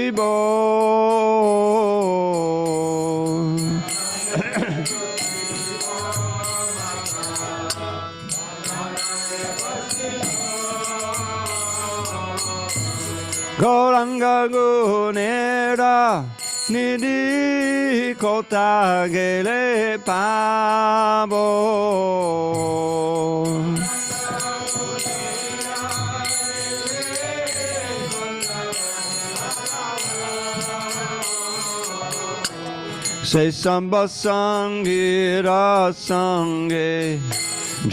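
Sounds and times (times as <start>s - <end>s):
group of voices singing: 0.0s - 37.9s
high jingling cymbals: 0.0s - 37.9s
sustained instrumental tones: 0.0s - 37.9s
repeated metallic strokes: 0.2s - 37.9s.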